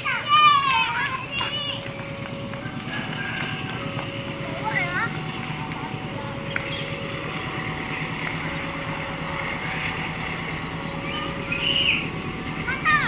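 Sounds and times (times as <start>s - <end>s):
train locomotive engine droning: 0.0s - 13.0s.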